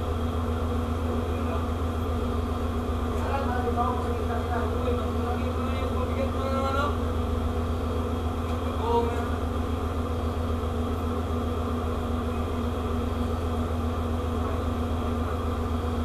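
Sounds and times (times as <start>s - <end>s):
ship machinery hum: 0.0s - 16.0s.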